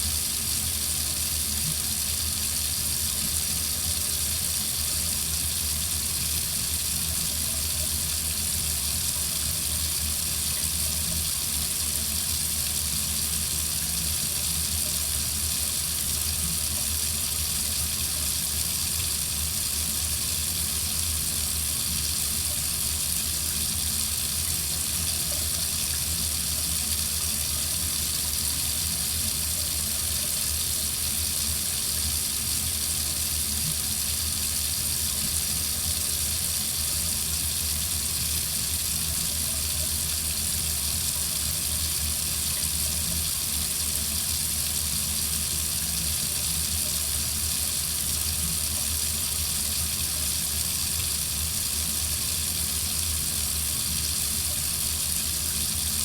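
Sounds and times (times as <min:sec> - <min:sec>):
faucet running into sink: 0:00.0 - 0:56.0.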